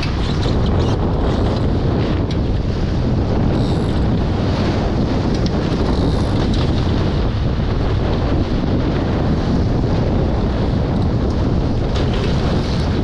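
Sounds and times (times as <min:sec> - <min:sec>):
water rushing along hulls: 0:00.0 - 0:13.0
wind buffeting microphone: 0:00.0 - 0:13.0.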